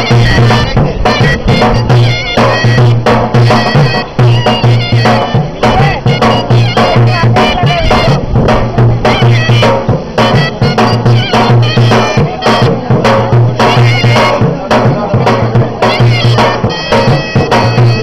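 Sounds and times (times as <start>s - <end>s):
reedy melody: 0.0s - 18.0s
steady drum beat: 0.0s - 18.0s.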